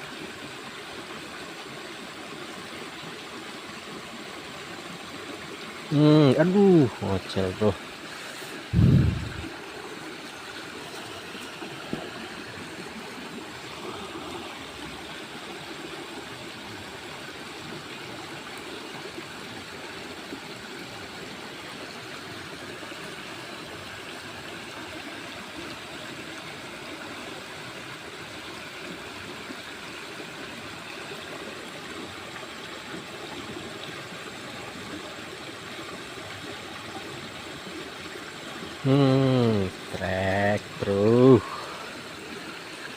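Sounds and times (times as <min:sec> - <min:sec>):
stream water flowing: 0:00.0 - 0:42.9.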